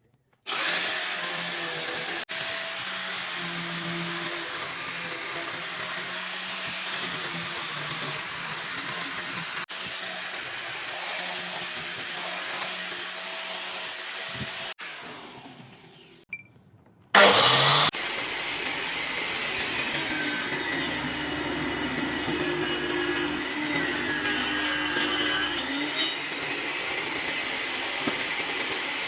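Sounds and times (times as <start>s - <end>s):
power saw cutting wood: 0.5s - 16.2s, 17.2s - 29.0s.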